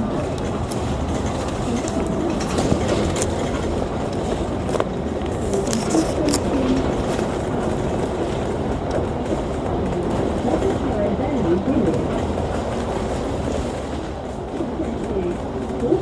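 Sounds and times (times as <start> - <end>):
bodywork rattles and clicks: 0.0 - 16.0
bus engine and road rumble: 0.0 - 16.0.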